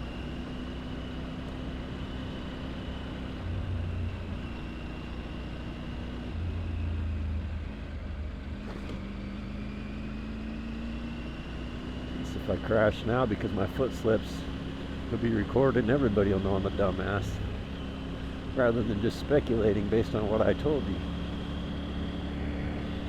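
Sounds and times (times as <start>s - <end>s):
motorcycle engine running: 0.0s - 23.0s
road noise: 0.0s - 23.0s.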